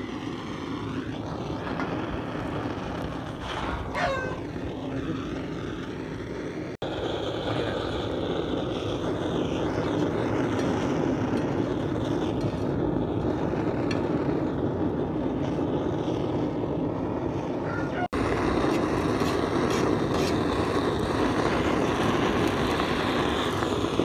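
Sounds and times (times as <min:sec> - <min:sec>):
blow torch flame rushing: 0:00.0 - 0:24.0.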